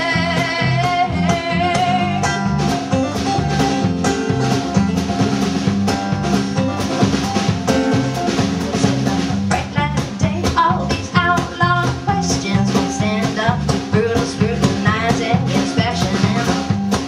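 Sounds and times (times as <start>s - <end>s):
drum kit steady beat: 0.0s - 17.0s
guitar: 0.0s - 17.0s.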